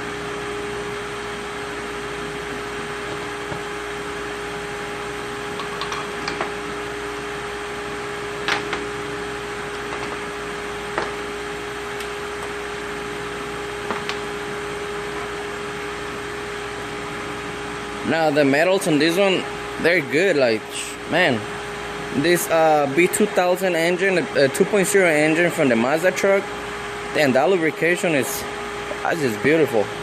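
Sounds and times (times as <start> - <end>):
fan humming: 0.0 - 30.0.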